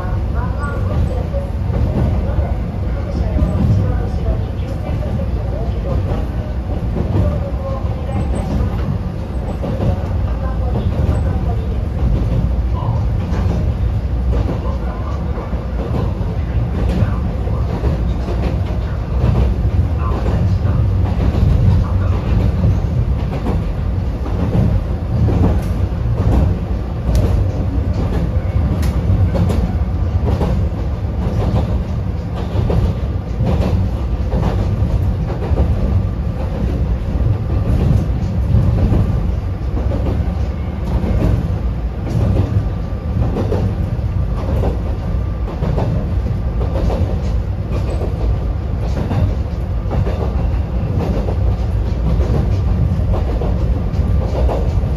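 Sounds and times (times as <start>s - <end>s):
train running low rumble: 0.0s - 54.9s.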